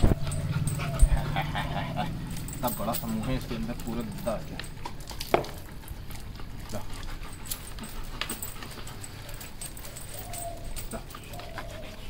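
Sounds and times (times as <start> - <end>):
dog whining: 0.0 - 12.0.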